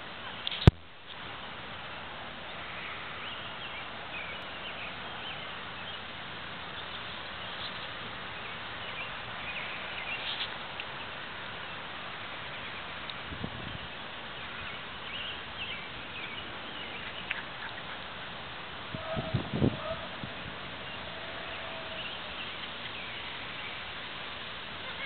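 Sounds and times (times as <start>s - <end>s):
background hiss: 0.0s - 25.0s.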